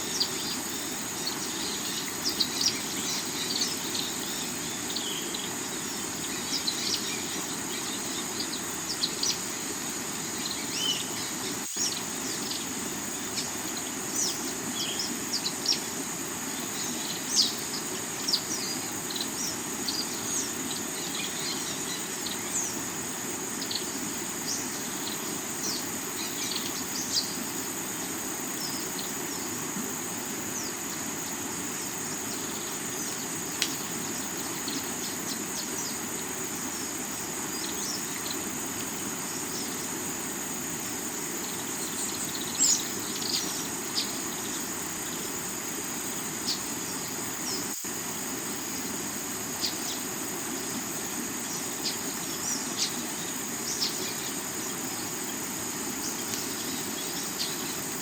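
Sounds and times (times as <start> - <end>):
crickets droning: 0.0 - 58.0.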